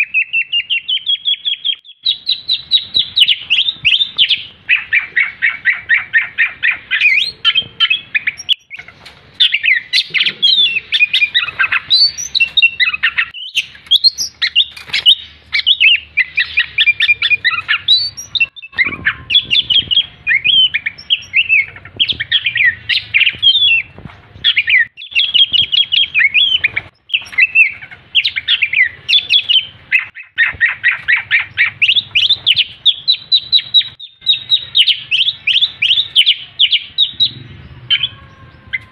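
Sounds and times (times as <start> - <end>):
songbird whistling and chattering: 0.0 - 38.9.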